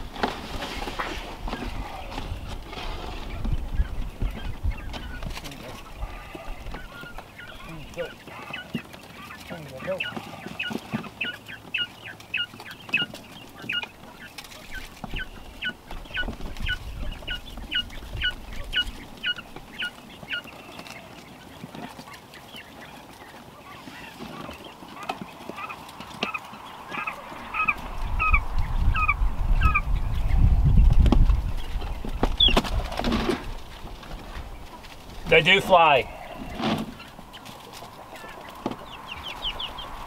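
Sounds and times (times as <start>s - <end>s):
quail peeping: 0.0s - 40.0s.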